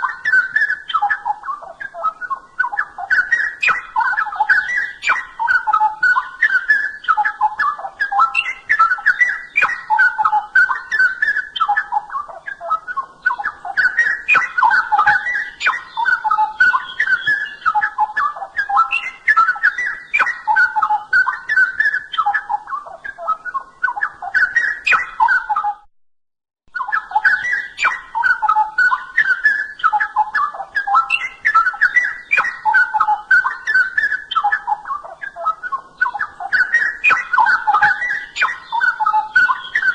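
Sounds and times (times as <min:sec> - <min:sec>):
bird singing warbling phrases: 0:00.0 - 0:25.9, 0:26.7 - 0:39.9.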